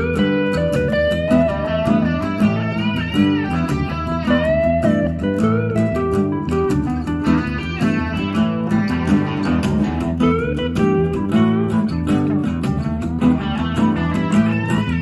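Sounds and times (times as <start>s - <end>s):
bass guitar: 0.0s - 15.0s
blues-rock electric guitar: 0.0s - 15.0s.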